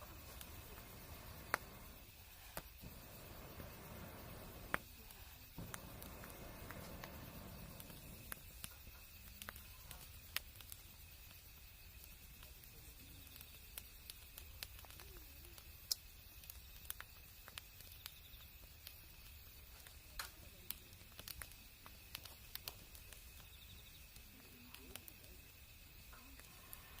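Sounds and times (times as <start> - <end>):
campfire crackling and popping: 0.0 - 27.0
faint steady hiss: 0.0 - 27.0.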